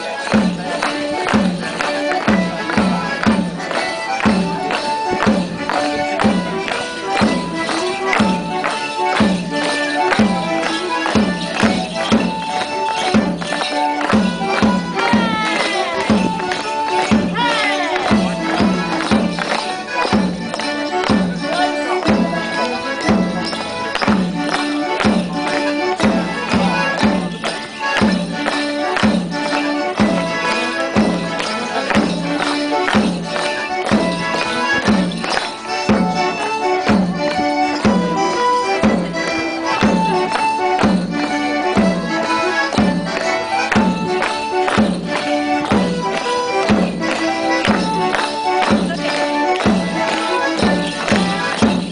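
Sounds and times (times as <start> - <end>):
folk dance tune: 0.0 - 51.9
clogs striking stone paving: 0.1 - 51.9.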